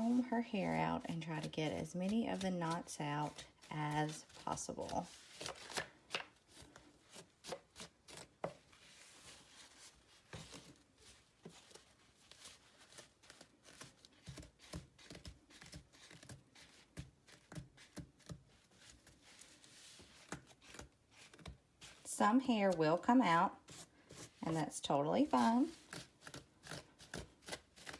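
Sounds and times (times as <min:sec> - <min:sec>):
comb scratching through hair: 0:00.0 - 0:05.9, 0:06.6 - 0:27.9.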